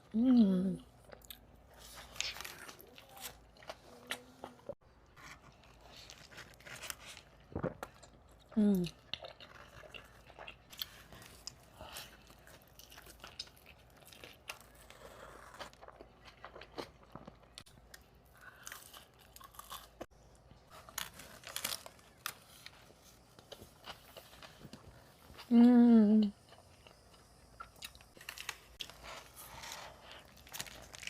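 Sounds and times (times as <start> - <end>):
person chewing food: 0.8 - 25.5, 26.2 - 31.0.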